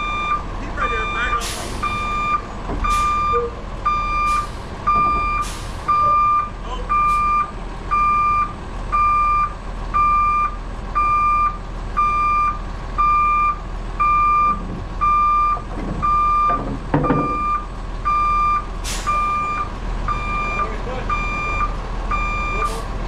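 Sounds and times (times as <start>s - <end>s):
vehicle backup alarm beeping: 0.0s - 22.9s
low engine hum: 0.0s - 23.0s.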